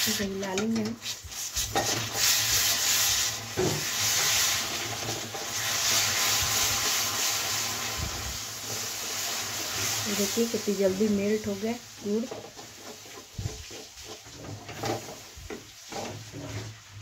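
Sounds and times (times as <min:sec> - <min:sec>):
stirrer scraping a pan: 0:00.0 - 0:17.0.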